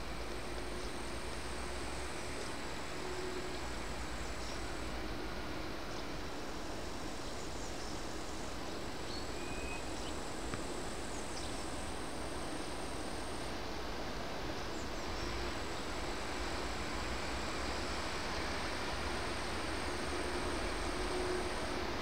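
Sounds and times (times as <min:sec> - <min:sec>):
insect whine: 0:00.0 - 0:22.0
low rumble and hiss: 0:00.0 - 0:22.0.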